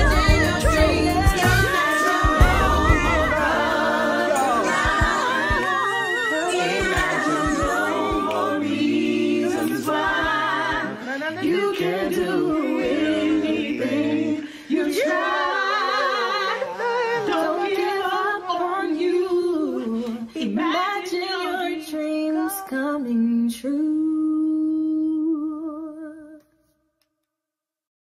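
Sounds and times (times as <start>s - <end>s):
group singing with vibrato: 0.0s - 24.6s.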